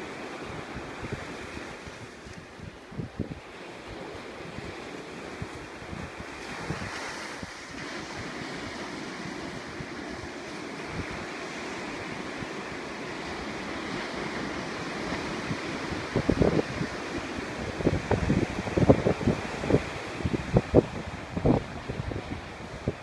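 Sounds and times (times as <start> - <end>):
ocean surf breaking: 0.0 - 23.0
wind buffeting microphone: 0.0 - 23.0.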